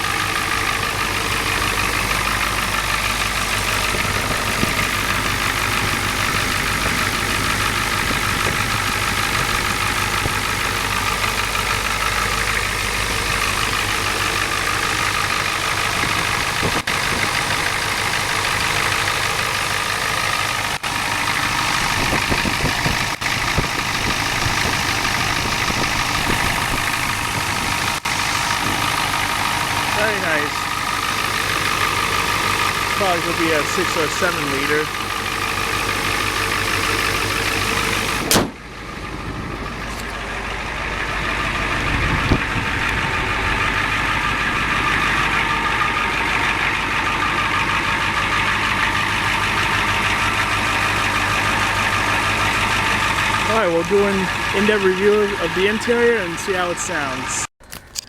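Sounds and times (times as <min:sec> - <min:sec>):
diesel engine idling: 0:00.0 - 0:57.5.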